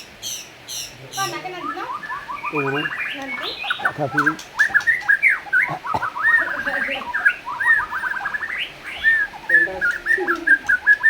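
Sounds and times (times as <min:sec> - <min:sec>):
bird singing whistled notes: 0:00.0 - 0:11.0.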